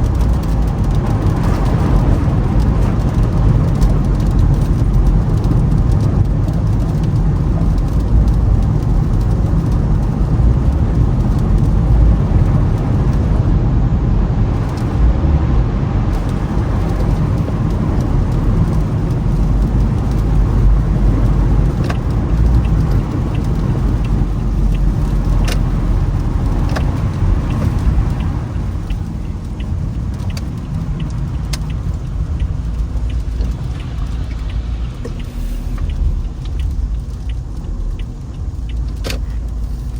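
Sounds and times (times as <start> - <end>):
light ticks: 0.0 - 13.5, 14.6 - 15.0, 16.1 - 39.9
tyre and road rumble: 0.0 - 39.9.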